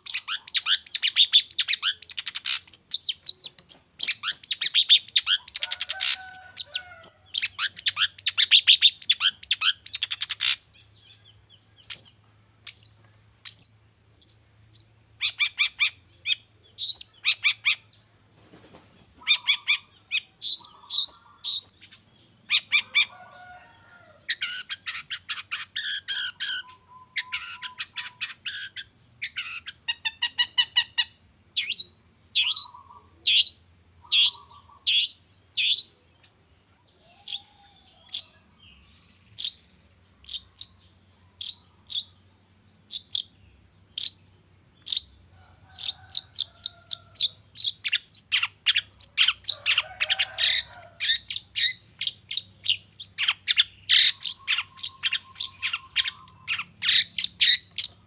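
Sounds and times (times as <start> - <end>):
bird singing chattering song: 0.0 - 23.2, 24.2 - 58.0.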